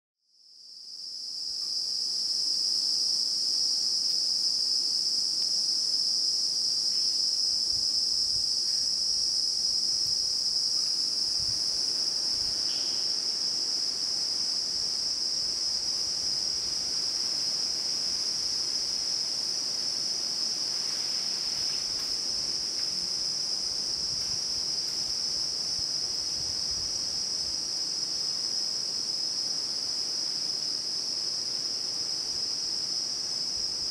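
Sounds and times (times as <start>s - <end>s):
insects buzzing: 0.7s - 33.9s.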